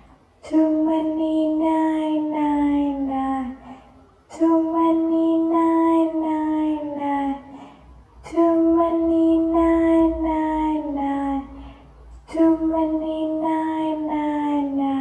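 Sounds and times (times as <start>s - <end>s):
high child-like voice singing: 0.4s - 3.7s, 4.3s - 7.6s, 8.3s - 11.6s, 12.3s - 15.0s.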